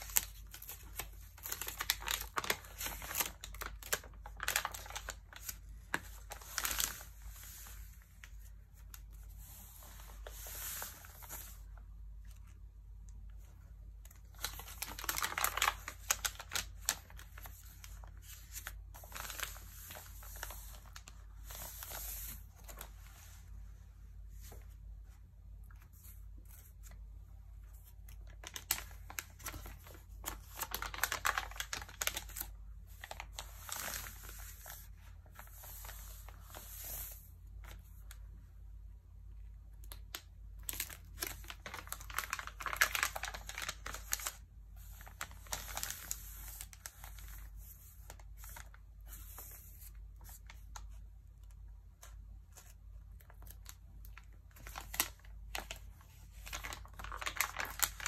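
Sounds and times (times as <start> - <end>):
magazine pages crinkling and rustling: 0.0 - 12.6, 13.3 - 23.5, 24.4 - 38.2, 39.9 - 58.0.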